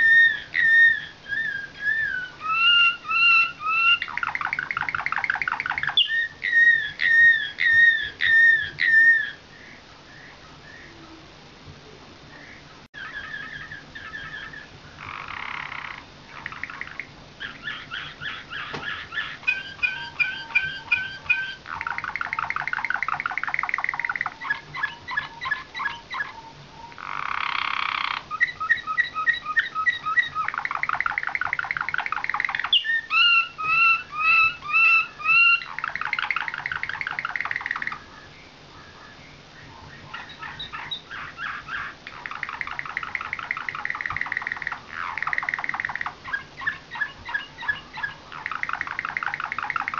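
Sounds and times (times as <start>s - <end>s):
canary singing trilled song: 0.0s - 11.1s, 12.4s - 49.9s.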